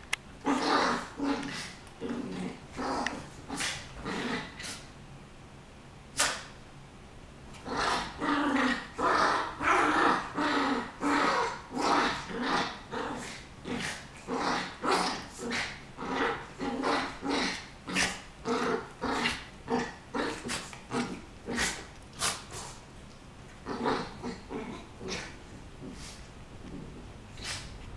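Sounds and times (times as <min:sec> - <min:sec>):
dogs growling: 0:00.4 - 0:04.9, 0:07.6 - 0:21.9, 0:23.5 - 0:27.7.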